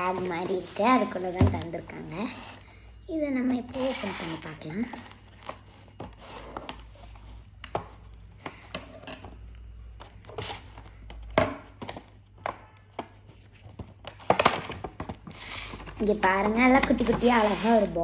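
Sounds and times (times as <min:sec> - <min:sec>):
plastic packaging rustling: 0:00.0 - 0:02.9, 0:03.5 - 0:08.7, 0:09.9 - 0:18.0.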